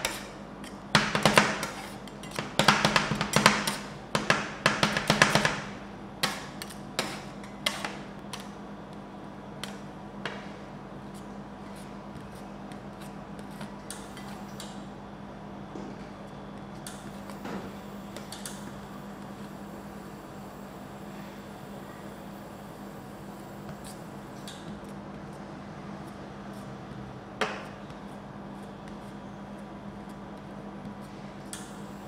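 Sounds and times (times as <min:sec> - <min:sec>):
steady low machine hum: 0:00.0 - 0:32.0.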